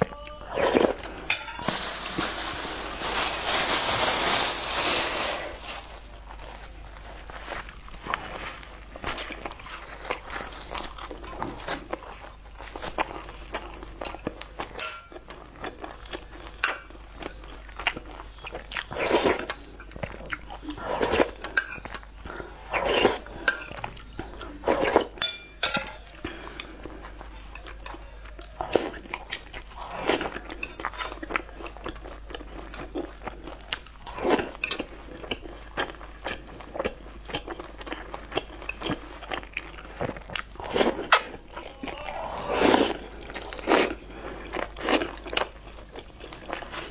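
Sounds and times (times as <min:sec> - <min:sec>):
person crunching fried food: 0:00.3 - 0:25.2, 0:26.1 - 0:46.9
wet chewing: 0:06.2 - 0:46.9.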